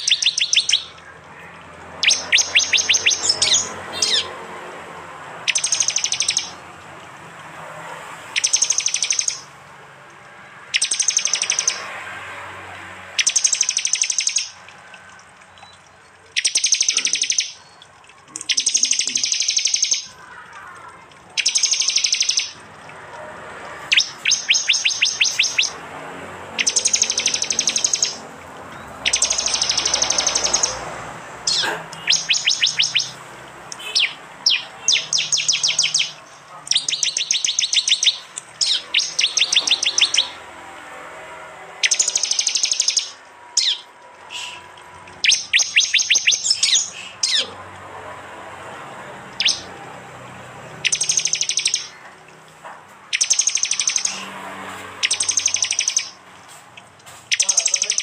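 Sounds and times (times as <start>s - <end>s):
songbirds ticking trills: 0.0s - 58.0s.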